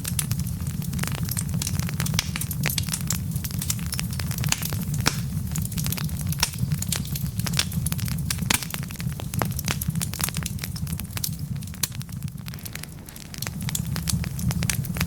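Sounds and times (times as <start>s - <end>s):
logs crackling and popping: 0.0s - 15.0s
low rumble of fire: 0.0s - 15.0s.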